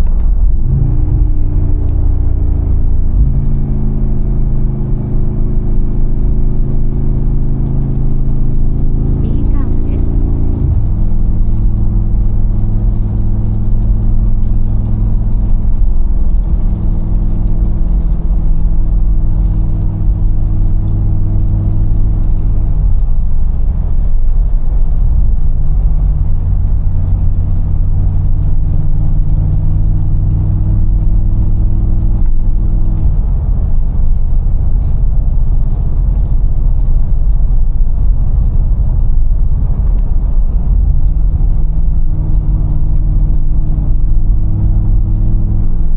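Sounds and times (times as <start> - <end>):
car engine droning: 0.0 - 45.9.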